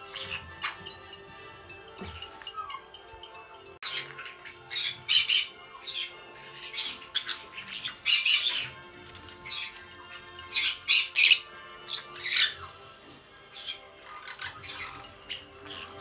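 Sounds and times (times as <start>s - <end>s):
parrots squawking: 0.0s - 3.2s, 3.8s - 16.0s
background music: 0.0s - 16.0s.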